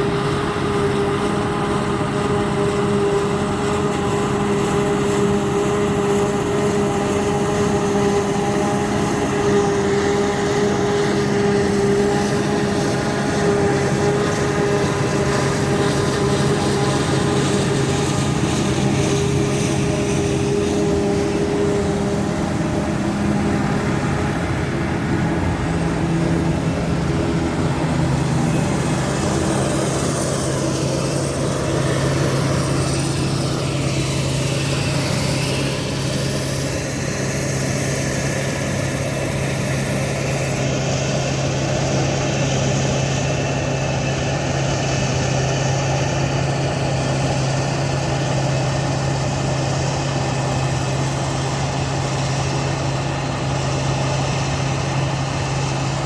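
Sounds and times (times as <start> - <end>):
harvester engine droning: 0.0 - 56.0.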